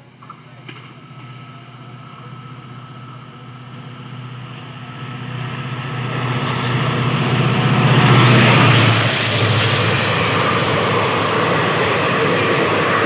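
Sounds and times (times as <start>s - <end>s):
diesel locomotive engine throb: 0.0s - 13.0s
wheels rushing on rail: 0.0s - 13.0s.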